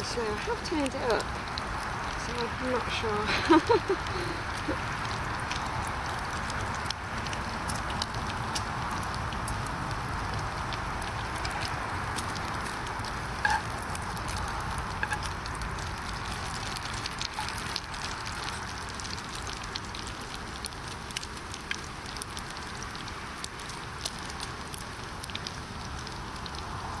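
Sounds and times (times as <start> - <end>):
bacon sizzling in a pan: 0.0 - 27.0.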